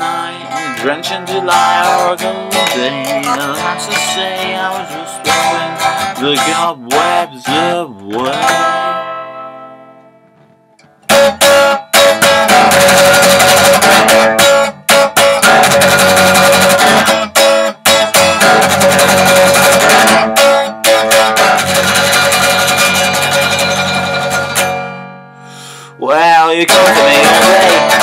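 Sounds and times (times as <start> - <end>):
electric guitar strumming: 0.0 - 28.0.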